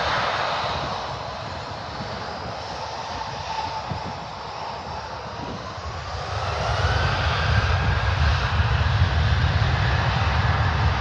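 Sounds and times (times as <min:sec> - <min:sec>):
jet engines whining at takeoff: 0:00.0 - 0:11.0.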